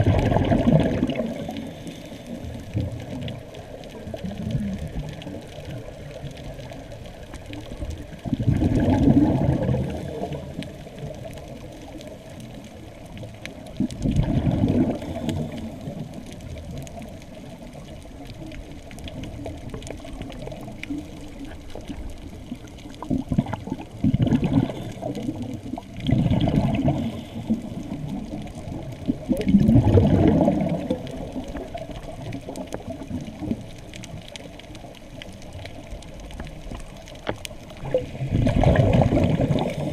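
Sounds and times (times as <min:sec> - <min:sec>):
underwater exhaled bubbles: 0:00.0 - 0:39.9.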